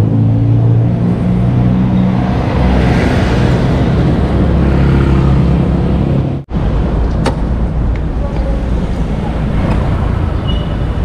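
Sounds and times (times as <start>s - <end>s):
rushing road and air noise: 0.0s - 11.0s.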